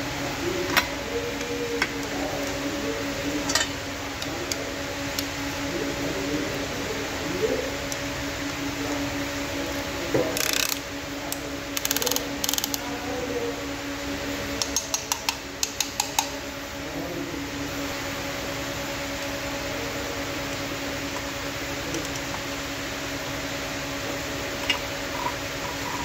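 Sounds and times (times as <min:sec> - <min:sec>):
steady electric hum: 0:00.0 - 0:26.0.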